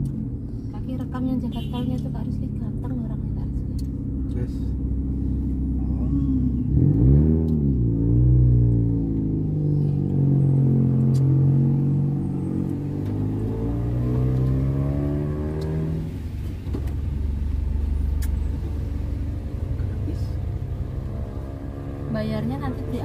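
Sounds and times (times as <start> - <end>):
car engine pulling away: 3.6 - 23.0.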